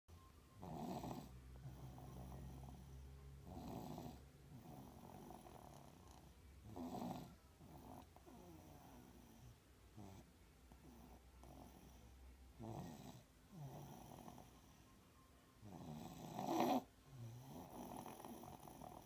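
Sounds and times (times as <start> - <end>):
baby snoring: 0.5 - 14.9, 15.6 - 19.0.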